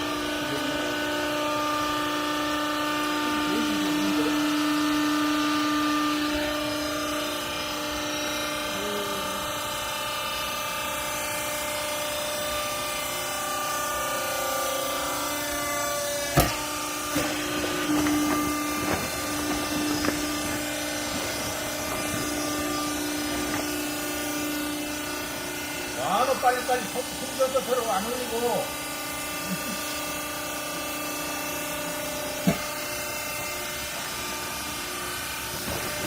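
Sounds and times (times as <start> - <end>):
hydraulic baler humming: 0.0 - 36.0.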